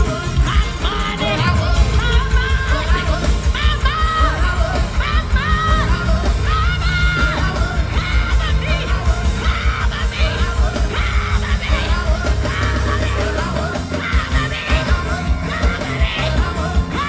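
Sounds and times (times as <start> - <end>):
drums and bass beat: 0.0 - 17.0
gospel band music: 0.0 - 17.0
people singing and shouting: 0.0 - 17.0.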